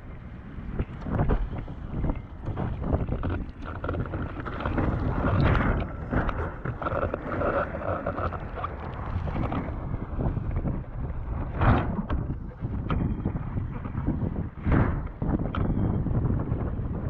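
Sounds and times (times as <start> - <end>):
wind buffeting microphone: 0.0 - 17.0
water rushing against board: 0.6 - 15.4.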